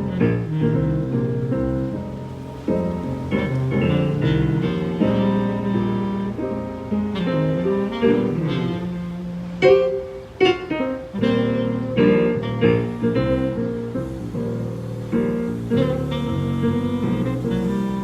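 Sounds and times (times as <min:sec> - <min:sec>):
keyboard playing chords: 0:00.0 - 0:18.0
tenor saxophone melody: 0:00.0 - 0:18.0.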